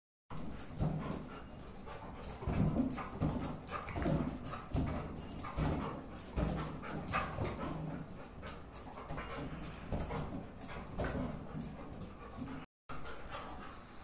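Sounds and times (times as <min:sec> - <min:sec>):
puppy panting: 0:00.3 - 0:14.0
knocks and thumps on tiled floor: 0:00.5 - 0:12.6.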